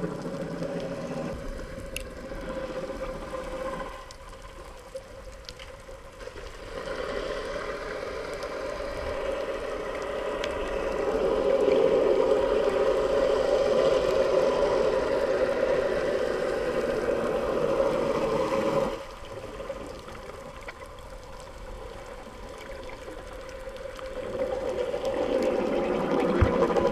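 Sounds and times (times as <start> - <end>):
muffled underwater rushing: 0.0 - 26.9.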